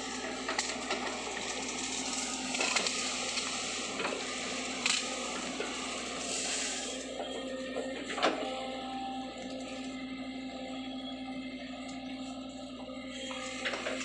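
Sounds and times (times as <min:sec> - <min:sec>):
mini excavator running: 0:00.0 - 0:14.0.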